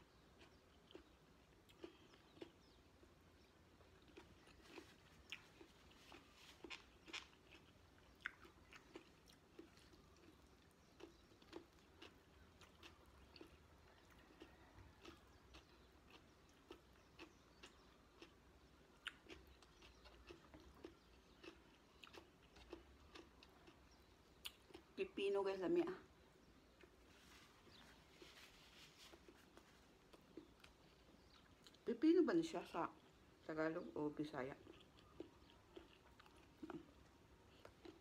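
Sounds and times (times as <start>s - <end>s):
person chewing food: 0.0s - 25.0s, 26.4s - 31.8s, 34.6s - 38.0s.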